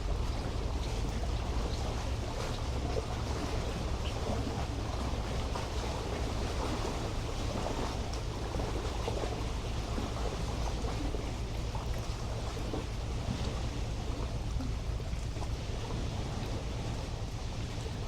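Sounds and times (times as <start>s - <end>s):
small waves lapping on shore: 0.0s - 18.0s
steady low rumble: 0.0s - 18.0s.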